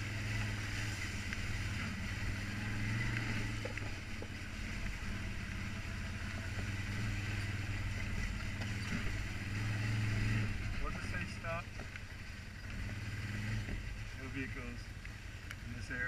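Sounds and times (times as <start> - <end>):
quad engine running: 0.0 - 16.0.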